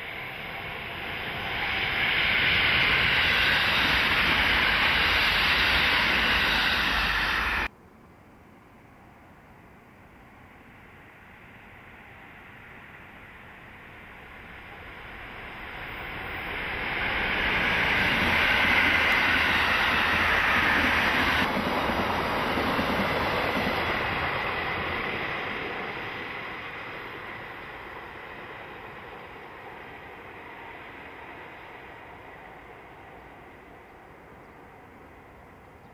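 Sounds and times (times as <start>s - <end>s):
electric train rolling: 0.0s - 7.7s, 10.6s - 35.3s.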